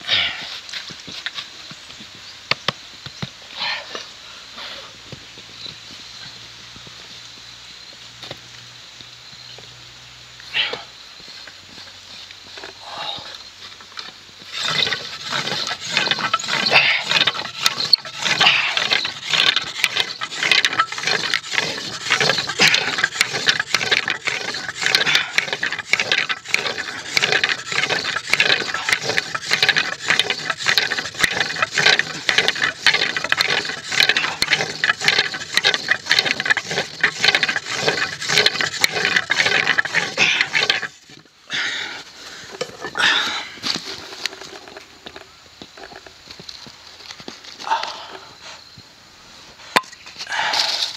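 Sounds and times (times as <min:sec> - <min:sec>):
wood grinding and squeaking: 0:00.0 - 0:07.4, 0:08.1 - 0:50.9.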